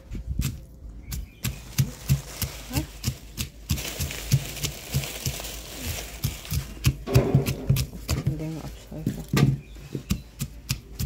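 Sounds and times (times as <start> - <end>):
peanuts crunching: 0.0 - 9.3
stone pestle pounding in mortar: 0.4 - 11.0.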